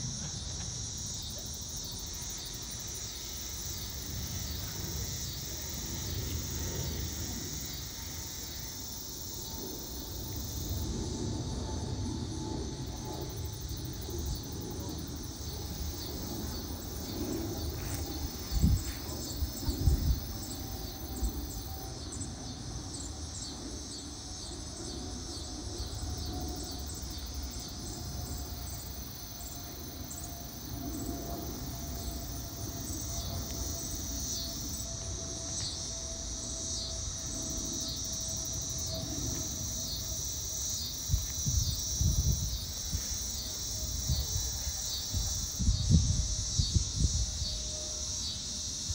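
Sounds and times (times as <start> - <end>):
distant jet airliner: 0.0 - 46.5
insects chirping: 0.0 - 48.9.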